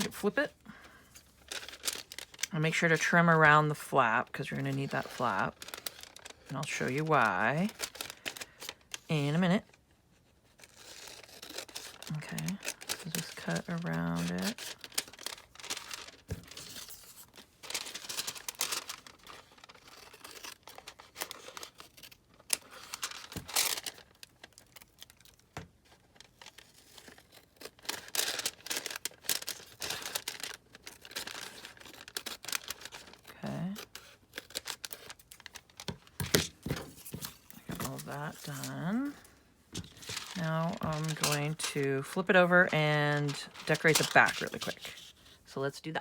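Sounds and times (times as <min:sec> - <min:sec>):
paper crinkling and rustling: 0:00.0 - 0:45.5.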